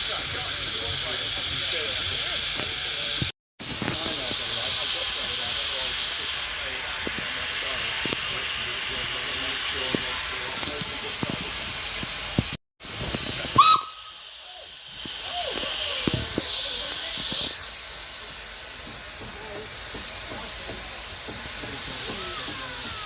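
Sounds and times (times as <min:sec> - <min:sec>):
loud burst of steam: 0:00.0 - 0:23.0
steam engine hissing: 0:00.0 - 0:23.0.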